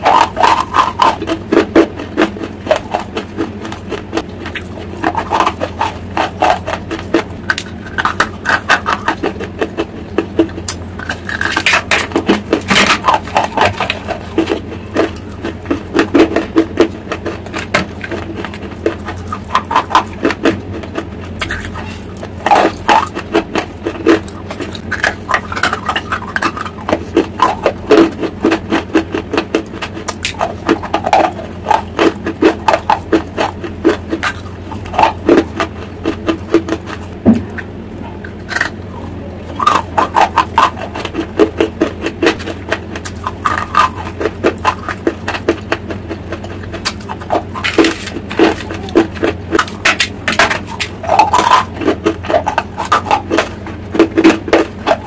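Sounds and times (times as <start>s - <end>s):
chewing hard dry clay: 0.0s - 55.0s.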